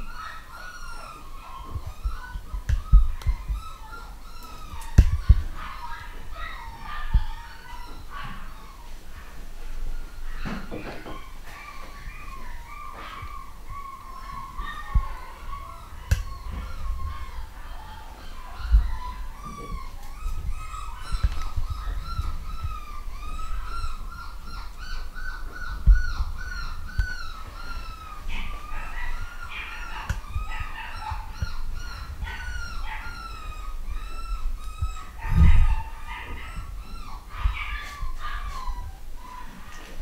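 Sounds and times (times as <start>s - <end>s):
puppy whimpering: 0.0s - 40.0s.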